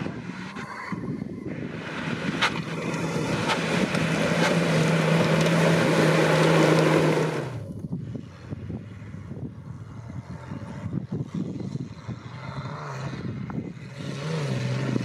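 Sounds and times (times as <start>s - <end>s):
off-road vehicle engine revving: 0.0s - 7.7s, 9.8s - 15.0s.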